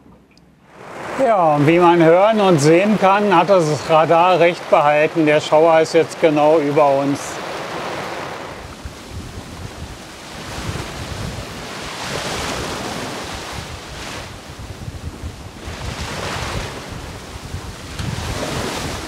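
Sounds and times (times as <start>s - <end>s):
sea waves rushing: 0.6s - 19.0s
wind buffeting microphone: 0.7s - 19.0s.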